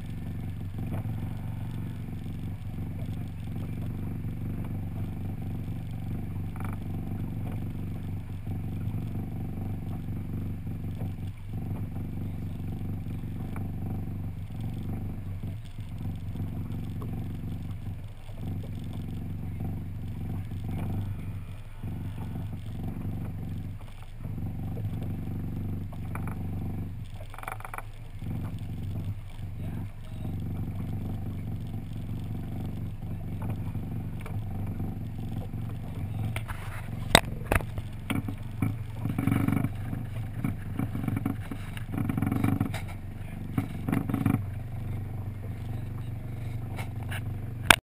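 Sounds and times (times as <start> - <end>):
outboard motor running: 0.0 - 47.8.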